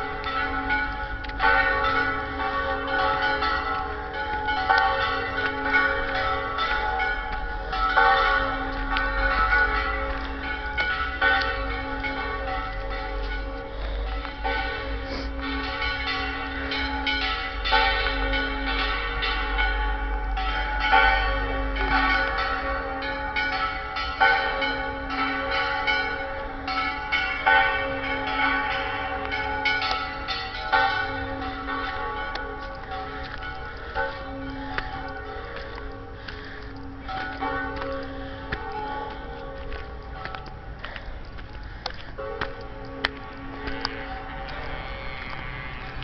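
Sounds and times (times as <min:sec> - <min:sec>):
church bells pealing: 0:00.0 - 0:46.0.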